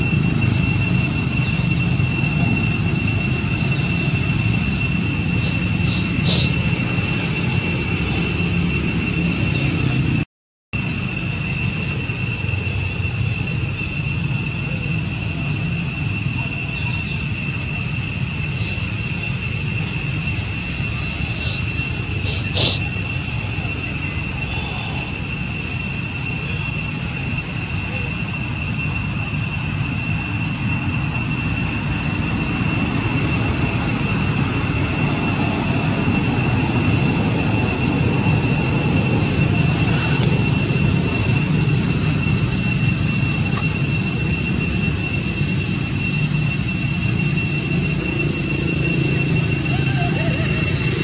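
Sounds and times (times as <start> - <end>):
constant high-pitched whine: 0.0 - 51.0.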